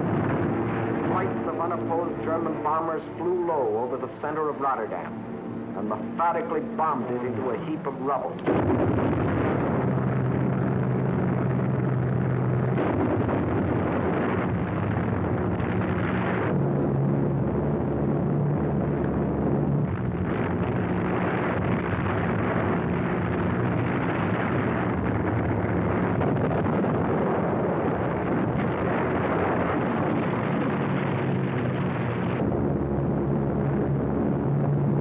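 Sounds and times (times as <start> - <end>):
bomber engines droning: 0.0 - 35.0
rumble of bombing: 0.0 - 35.0.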